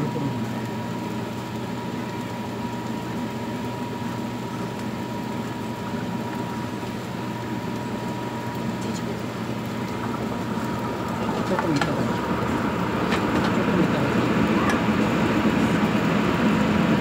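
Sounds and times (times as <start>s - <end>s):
food sizzling in oil: 0.0s - 17.0s
low steady hum: 0.0s - 17.0s.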